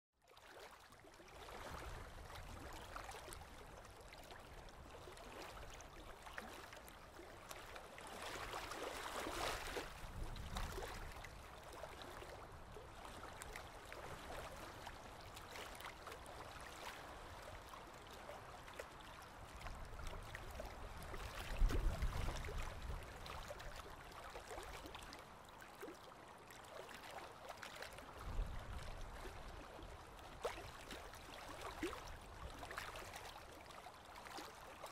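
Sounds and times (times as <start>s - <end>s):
choppy river water rushing: 0.4s - 34.9s.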